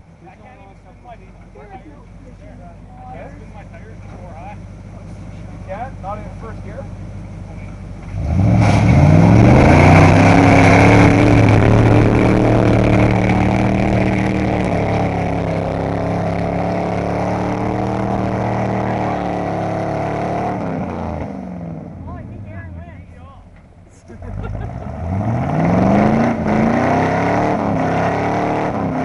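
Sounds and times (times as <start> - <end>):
pickup truck engine revving: 0.0 - 29.0.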